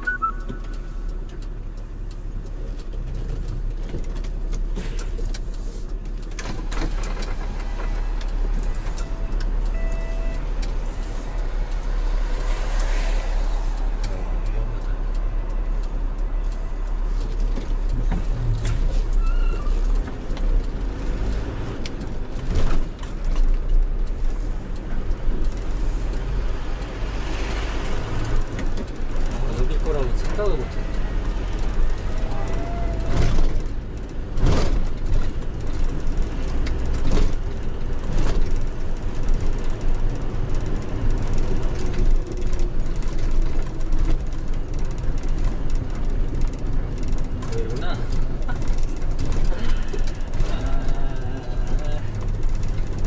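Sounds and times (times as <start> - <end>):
rattles and clicks in cab: 0.0 - 53.0
truck diesel engine rumble: 0.0 - 53.0.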